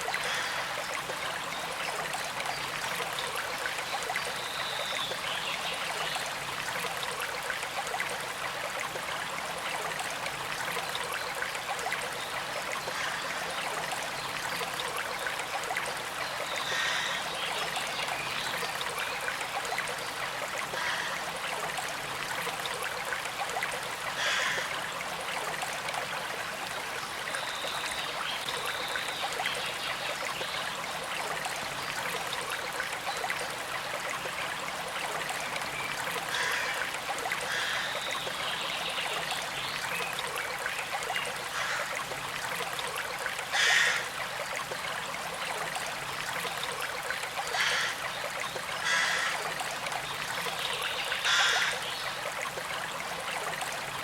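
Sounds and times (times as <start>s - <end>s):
creek flowing over stones: 0.0s - 54.0s.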